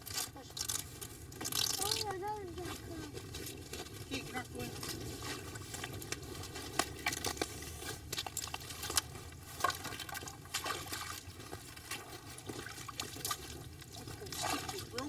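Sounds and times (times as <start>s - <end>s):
water and slush sloshing: 0.0s - 15.0s.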